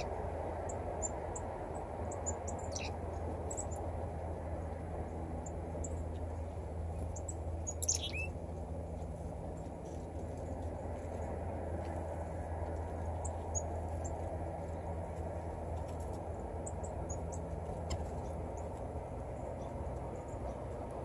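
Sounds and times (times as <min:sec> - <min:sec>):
chickadees calling: 0:00.0 - 0:04.0, 0:05.4 - 0:12.0, 0:12.8 - 0:14.8, 0:15.8 - 0:21.0
low background rumble with hum: 0:00.0 - 0:21.0.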